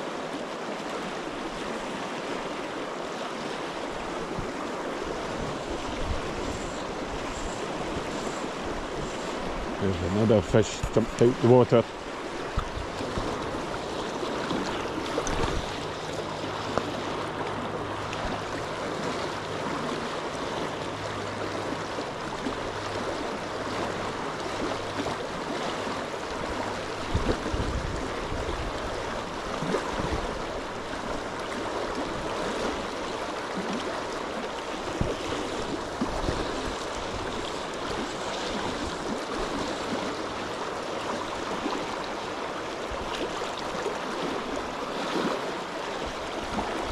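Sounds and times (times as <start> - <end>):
river water flowing: 0.0 - 46.9.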